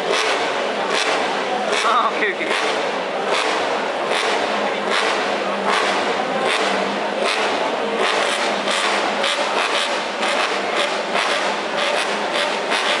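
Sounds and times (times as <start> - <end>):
racing motorcycle engine revving: 0.0 - 13.0.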